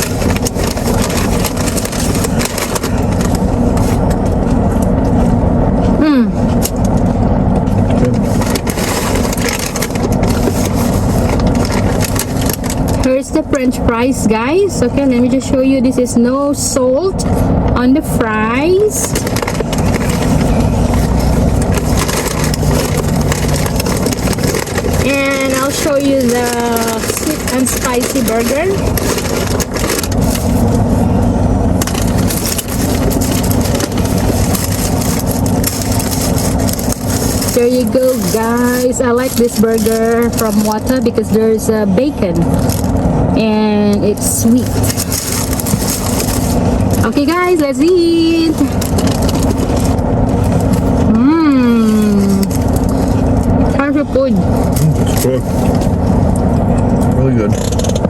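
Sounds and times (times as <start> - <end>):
paper wrapper crinkling: 0.0 - 4.5, 8.0 - 13.1, 18.7 - 43.1, 43.9 - 53.8, 54.4 - 57.0
car engine idling: 0.0 - 58.0
steady low hum: 0.0 - 58.0.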